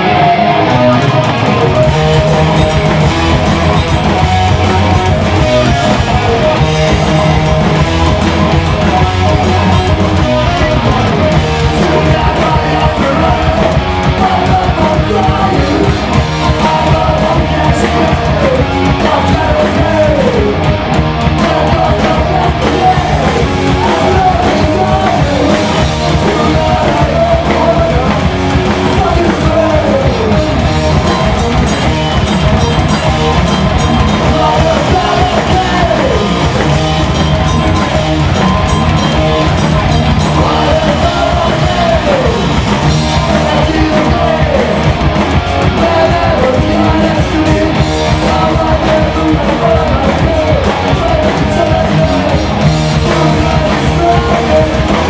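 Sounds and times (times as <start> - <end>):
bending lead guitar line: 0.0 - 55.0
heavy metal band playing live: 0.0 - 55.0.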